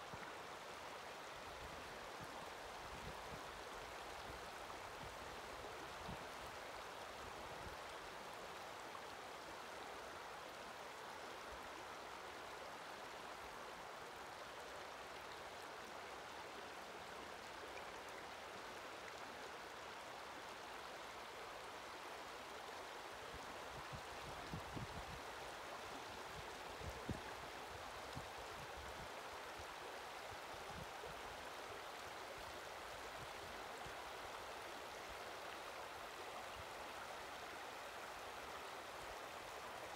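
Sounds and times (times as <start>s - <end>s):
river rushing over cobbles: 0.0s - 39.9s.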